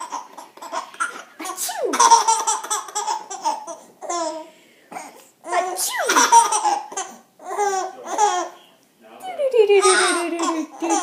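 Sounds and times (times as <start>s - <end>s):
baby laughing: 0.0s - 4.5s, 5.5s - 8.6s, 9.7s - 11.0s.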